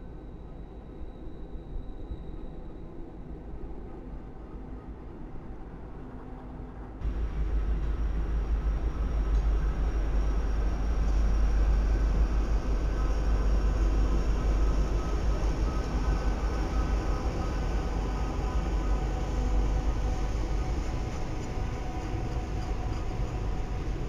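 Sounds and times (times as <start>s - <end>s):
diesel locomotives rumbling past: 3.8s - 24.0s.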